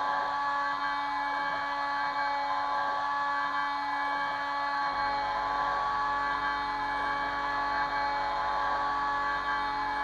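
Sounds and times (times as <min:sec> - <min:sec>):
cnc spindle whining while milling: 0:00.0 - 0:10.0.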